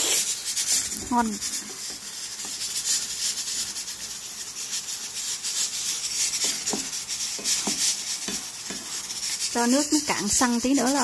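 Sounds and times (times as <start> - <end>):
sauce bubbling and sizzling in a pan: 0.0 - 11.0.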